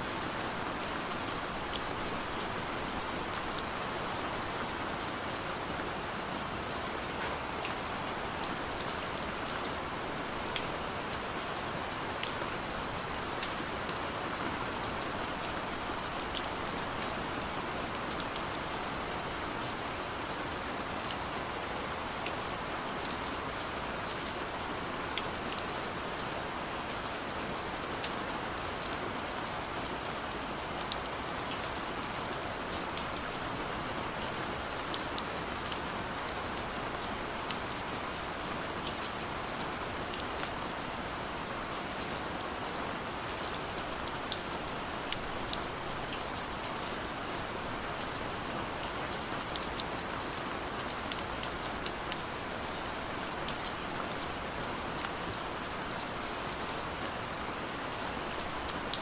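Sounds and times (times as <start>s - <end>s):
gentle rain hiss: 0.0s - 59.0s.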